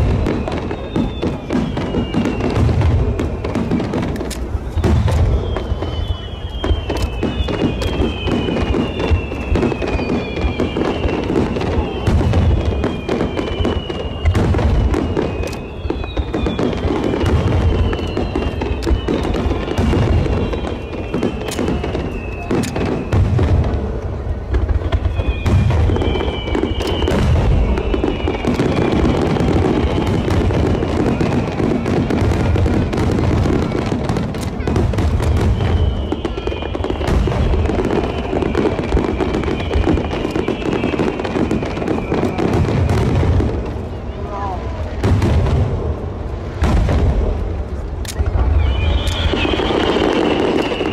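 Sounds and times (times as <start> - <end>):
fireworks booming and cracking: 0.0 - 50.9.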